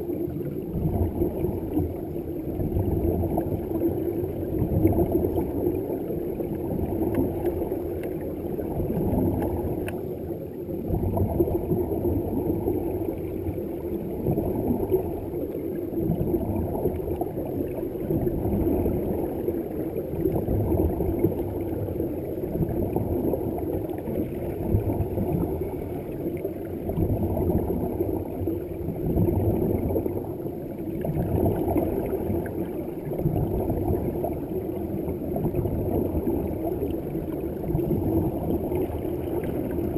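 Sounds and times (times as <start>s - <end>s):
air bubbles gurgling: 0.0s - 39.9s
faint steady hum: 0.0s - 39.9s
low underwater rumble: 0.0s - 39.9s.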